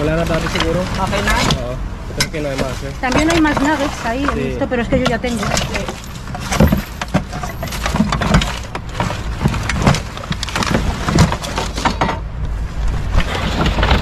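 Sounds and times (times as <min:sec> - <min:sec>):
plastic bags rustling: 0:00.0 - 0:12.0
hands rummaging through rubbish: 0:00.0 - 0:12.3, 0:12.9 - 0:14.0.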